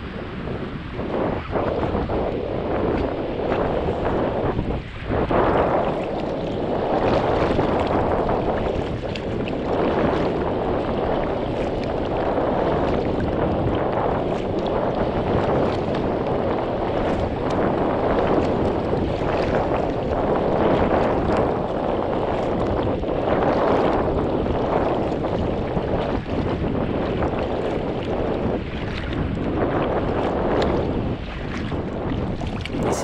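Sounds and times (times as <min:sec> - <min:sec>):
water rippling along hull: 0:00.0 - 0:33.0
wind on microphone: 0:00.0 - 0:33.0
paddle splashing: 0:01.7 - 0:33.0.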